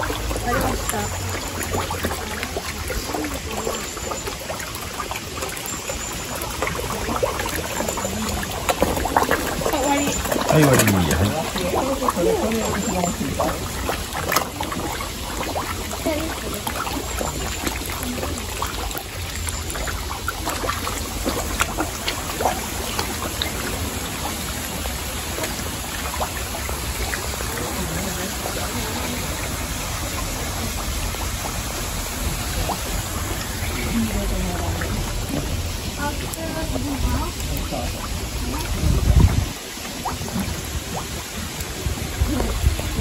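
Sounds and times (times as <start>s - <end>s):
fish splashing in pond water: 0.0s - 43.0s.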